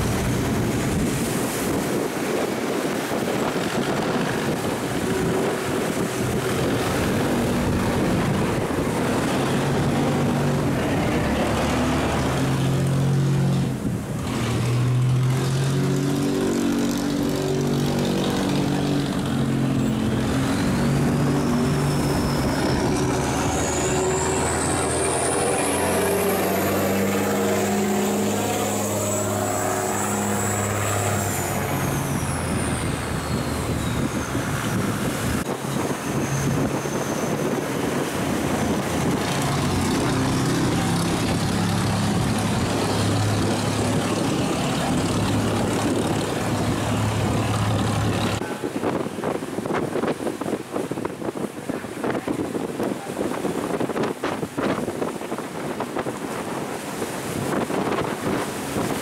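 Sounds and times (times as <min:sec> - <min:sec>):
barge engine droning: 0:00.0 - 0:59.0.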